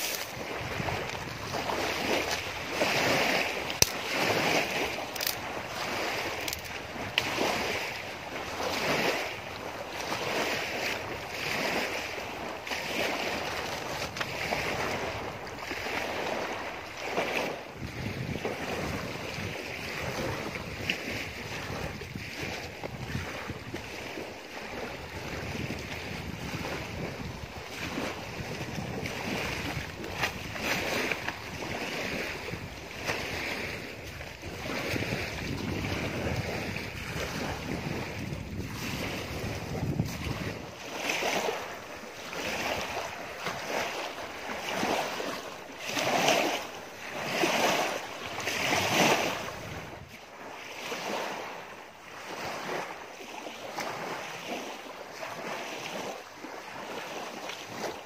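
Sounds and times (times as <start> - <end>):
wind buffeting microphone: 0.0 - 52.9
waves lapping on shore: 0.0 - 58.0.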